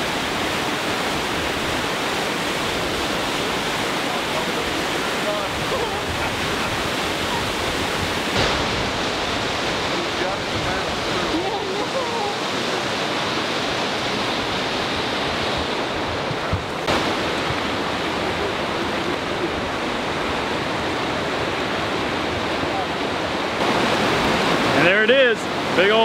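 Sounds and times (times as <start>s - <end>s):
water rushing through dam gates: 0.0s - 26.0s.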